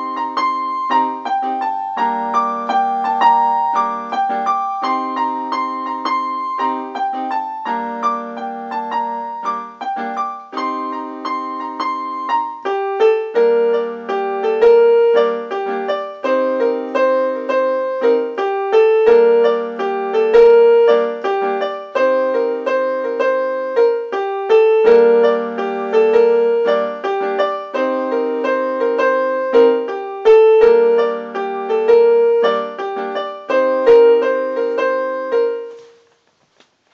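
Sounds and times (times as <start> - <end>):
keyboard melody riff: 0.0 - 35.8
keyboard piano chords: 0.0 - 36.1.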